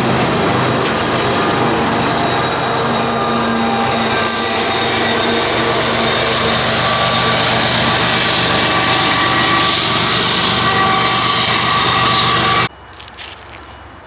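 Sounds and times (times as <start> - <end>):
train passing with rolling roar: 0.0 - 12.7.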